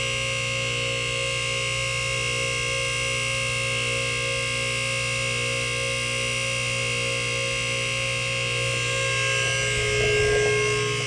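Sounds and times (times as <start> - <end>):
hydraulic power unit hum and whine: 0.0 - 11.0.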